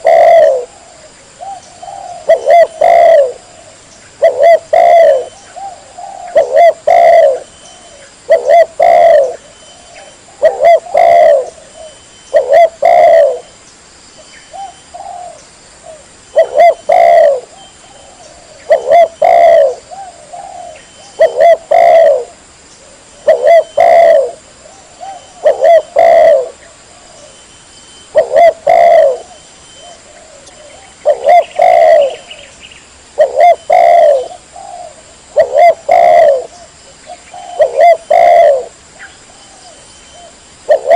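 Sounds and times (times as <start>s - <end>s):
dove cooing: 0.0s - 13.5s, 14.5s - 27.4s, 28.1s - 32.6s, 33.2s - 40.9s.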